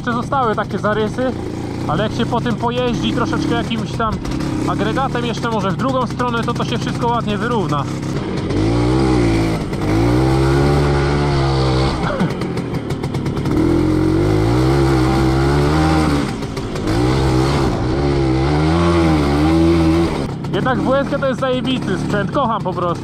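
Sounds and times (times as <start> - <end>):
two-stroke motorcycle engine revving: 0.0 - 23.0.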